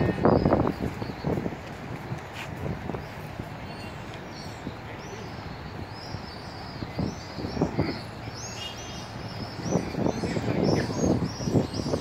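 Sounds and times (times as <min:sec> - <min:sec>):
small birds chirping: 0:00.0 - 0:12.0
steady outdoor hiss: 0:00.0 - 0:12.0.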